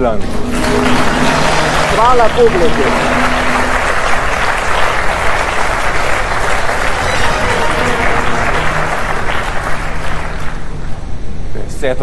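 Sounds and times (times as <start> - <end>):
audience applauding: 0.3 - 11.1.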